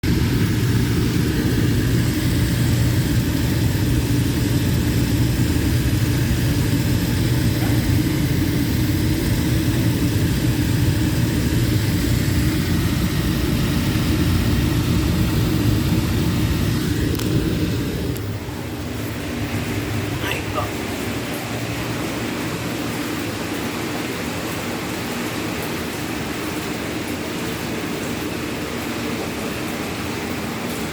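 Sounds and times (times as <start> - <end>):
churning water hiss: 0.0 - 30.9
jacuzzi pump motor hum: 0.0 - 30.9.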